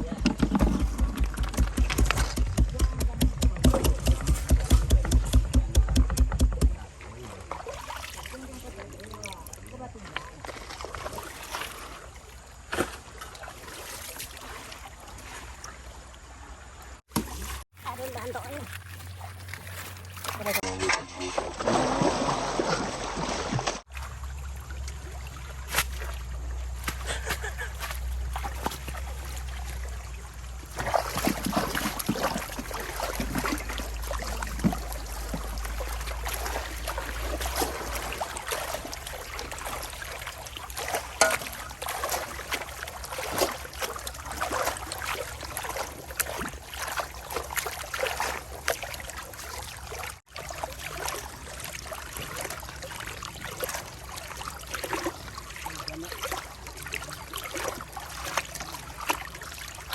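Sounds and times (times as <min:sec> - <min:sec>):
stream water splashing: 0:00.0 - 0:59.9
water sloshing and crackles: 0:00.0 - 0:59.9.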